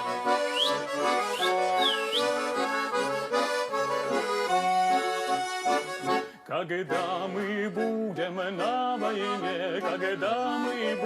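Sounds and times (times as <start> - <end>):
button accordion folk melody: 0.0 - 11.0.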